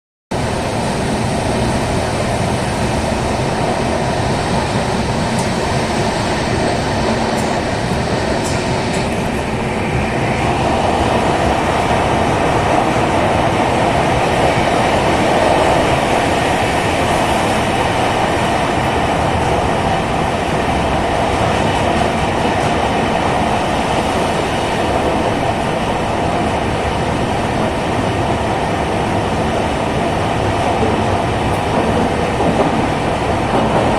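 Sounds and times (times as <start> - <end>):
train wheels rumbling on rails: 0.3 - 33.9.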